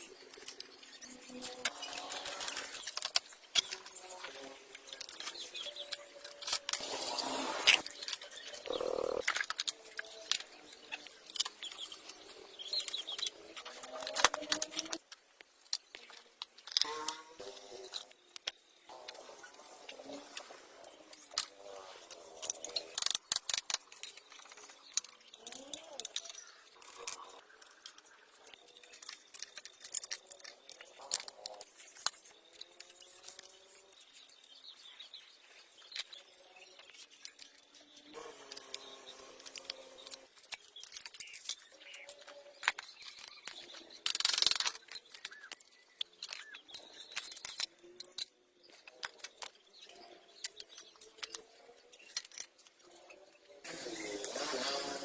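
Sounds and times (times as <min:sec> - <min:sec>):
metal parts clicking and tapping: 0:00.0 - 0:06.9, 0:07.7 - 0:53.2.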